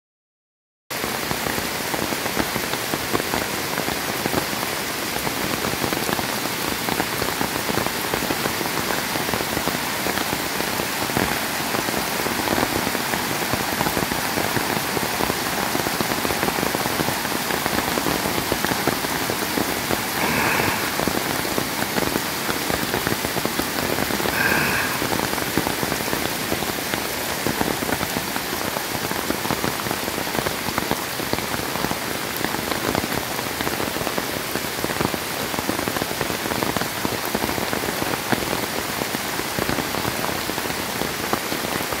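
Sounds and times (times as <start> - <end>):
rain falling on trees: 0.9 - 42.0
floodwater rushing: 1.1 - 36.2.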